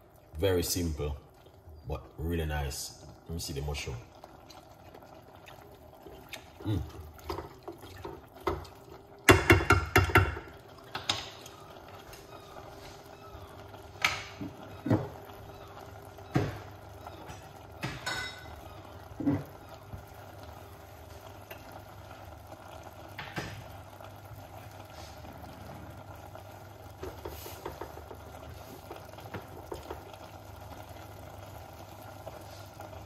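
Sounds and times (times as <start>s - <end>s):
food bubbling and hissing in pan: 0.0s - 33.0s.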